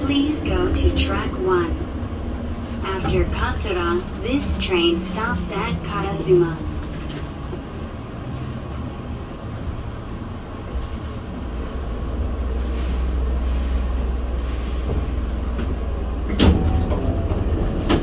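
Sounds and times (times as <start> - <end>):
train wheels and motors rumbling: 0.0 - 18.0.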